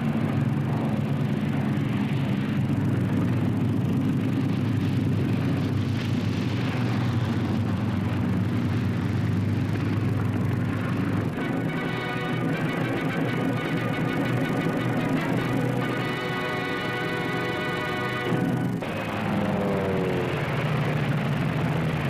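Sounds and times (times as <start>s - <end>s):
aircraft piston engines droning: 0.0s - 22.0s.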